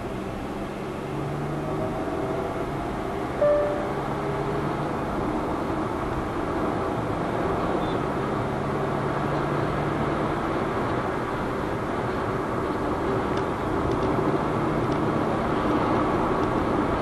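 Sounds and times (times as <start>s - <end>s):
low engine hum: 0.0s - 17.0s
road and tyre noise: 0.0s - 17.0s.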